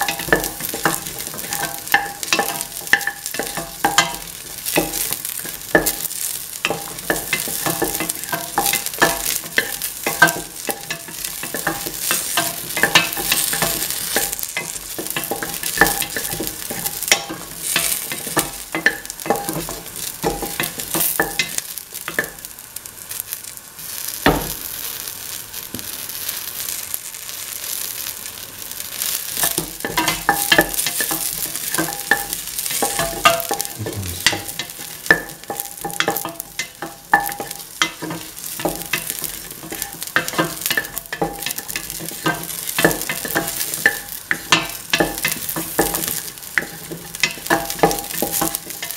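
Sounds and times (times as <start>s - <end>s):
food sizzling in oil: 0.0s - 48.9s.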